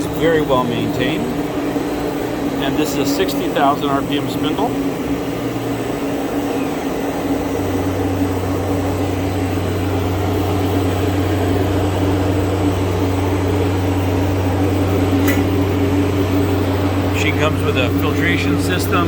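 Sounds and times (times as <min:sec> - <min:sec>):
deeper steady hum: 0:00.0 - 0:19.0
steady machine hum: 0:00.0 - 0:19.0.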